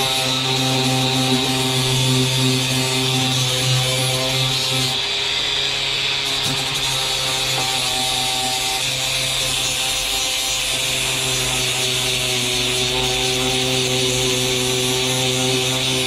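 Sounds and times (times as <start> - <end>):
angle grinder sanding plastic: 0.0 - 16.0.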